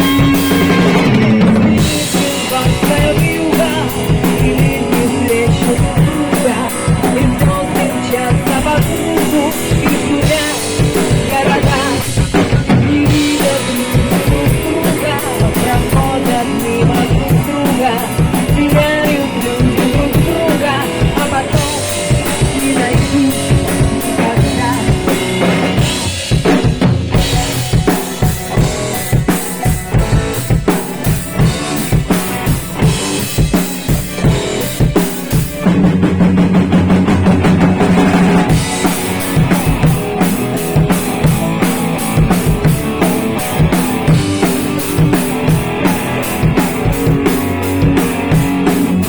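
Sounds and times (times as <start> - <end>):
drum kit kick and snare: 0.0 - 49.0
rock band playing: 0.0 - 49.0.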